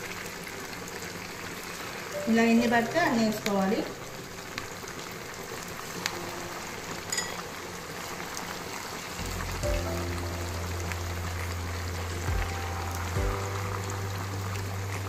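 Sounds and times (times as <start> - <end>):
chicken frying in oil: 0.0 - 15.0
background music: 2.0 - 15.0.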